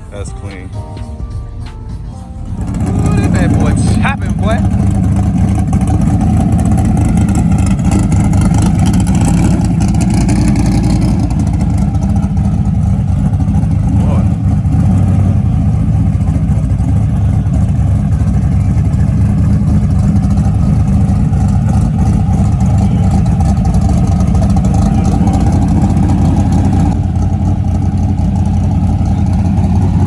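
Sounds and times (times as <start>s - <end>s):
car engine idling choppily: 0.0s - 30.0s.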